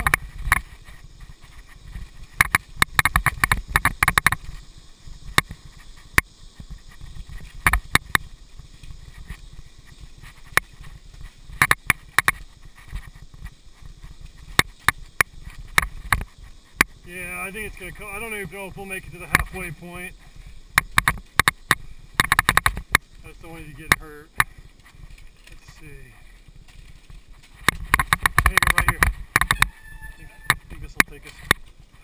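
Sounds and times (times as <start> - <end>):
bike rattles and knocks: 0.0 - 32.0
bike tyres rumbling on dirt: 0.0 - 32.0.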